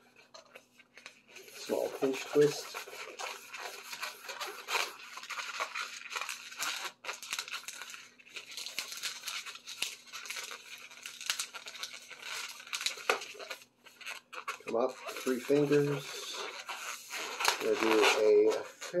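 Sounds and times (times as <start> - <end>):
balloon rubber scratching: 0.0 - 19.0.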